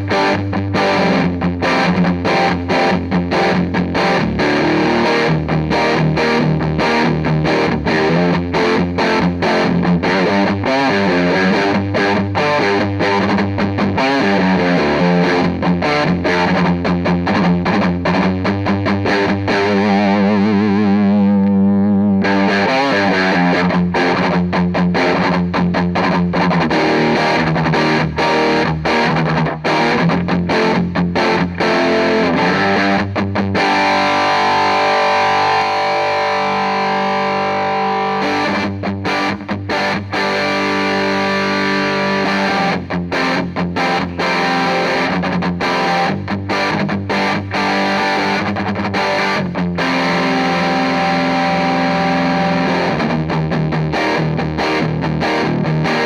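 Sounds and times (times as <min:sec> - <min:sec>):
distorted electric guitar riffing: 0:00.0 - 0:56.0.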